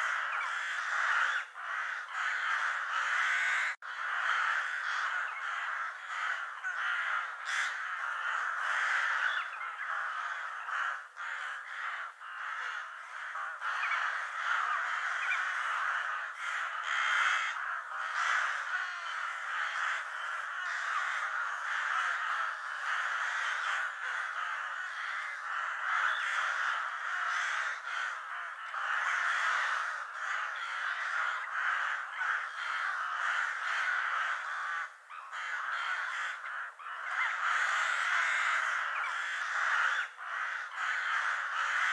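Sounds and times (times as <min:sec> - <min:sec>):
crows cawing: 0:00.0 - 0:41.9.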